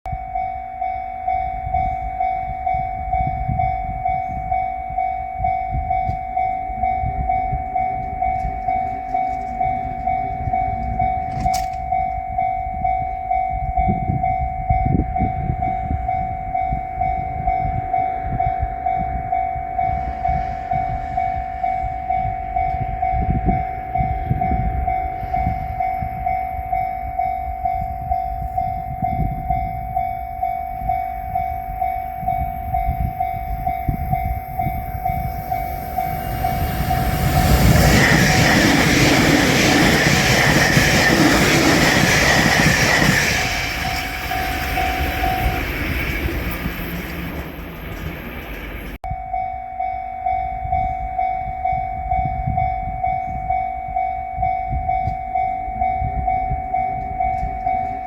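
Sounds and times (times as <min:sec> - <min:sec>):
level crossing warning bell: 0:00.1 - 0:58.0.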